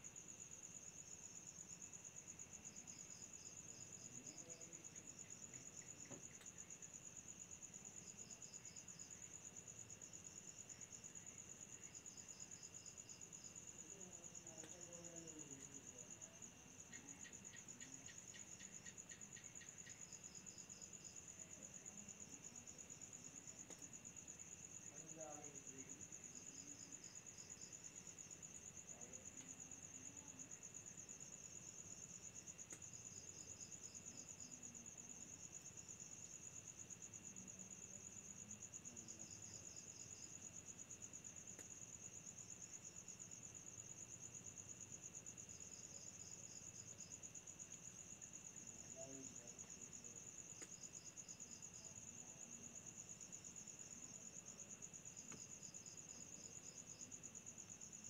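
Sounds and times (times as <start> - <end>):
cricket chirps: 0.0 - 58.0
faint insect whine: 0.0 - 58.0
cricket trilling: 7.7 - 58.0.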